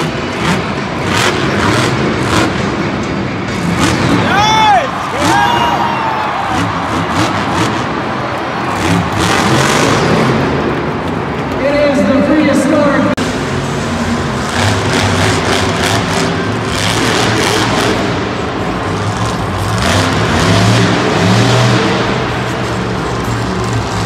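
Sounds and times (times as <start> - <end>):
truck engine revving: 0.0 - 11.6, 13.1 - 24.0.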